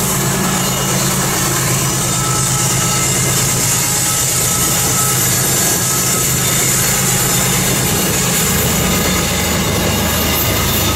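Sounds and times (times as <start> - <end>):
diesel locomotive engine drone: 0.0 - 10.9
train wheels rumbling on rails: 0.0 - 10.9.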